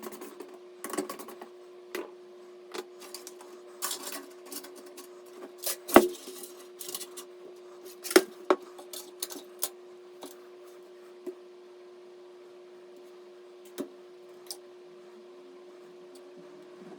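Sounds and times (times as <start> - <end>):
steady hum: 0.0 - 16.9.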